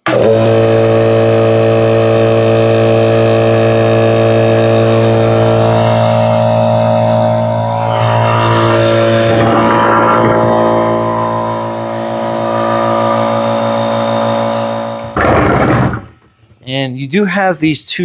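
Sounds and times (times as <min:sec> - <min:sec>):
air compressor motor running: 0:00.0 - 0:16.2.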